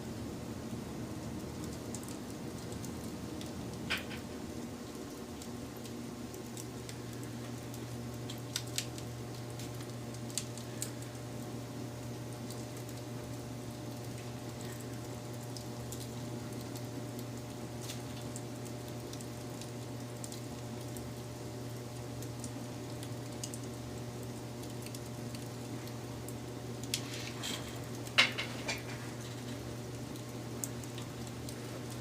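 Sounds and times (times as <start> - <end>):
wood fire burning: 0.0 - 32.0
fire crackling and popping: 0.2 - 32.0.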